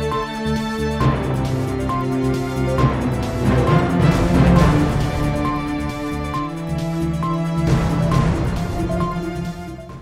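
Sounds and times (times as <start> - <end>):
news theme music: 0.0 - 10.0.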